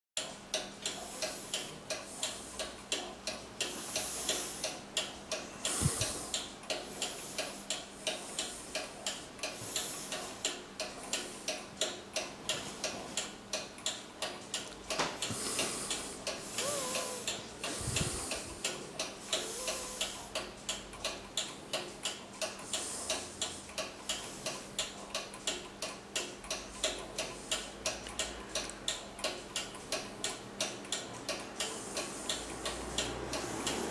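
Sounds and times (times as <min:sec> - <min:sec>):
table clock ticking: 0:00.2 - 0:33.9.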